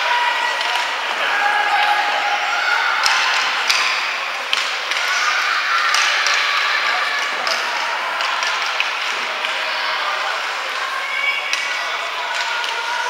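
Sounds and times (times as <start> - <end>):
faint voices: 0.0 - 13.0
hockey sticks and puck clacking: 0.0 - 13.0.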